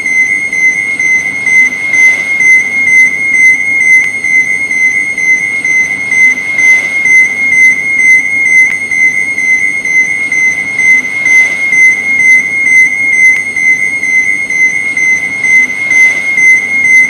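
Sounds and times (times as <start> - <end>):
pulsing high-pitched alarm beep: 0.0 - 17.0.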